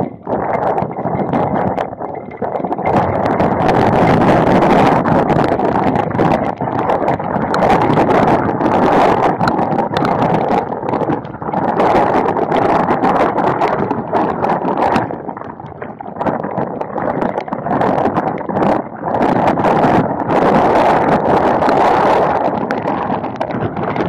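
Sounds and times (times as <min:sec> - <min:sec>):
raindrops ticking on camera: 0:00.0 - 0:24.0
wind buffeting microphone: 0:00.0 - 0:24.0.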